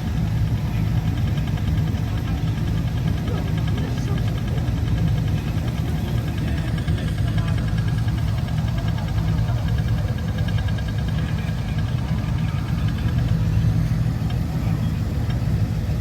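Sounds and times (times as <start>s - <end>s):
faint fast ticking: 0.0s - 16.0s
vehicle engine rumbling: 0.0s - 16.0s.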